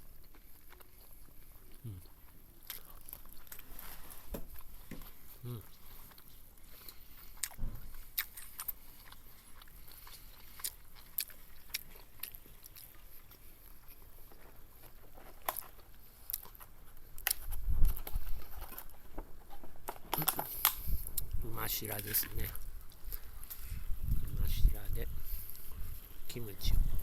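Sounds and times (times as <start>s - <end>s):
person chewing food: 0.0s - 26.4s.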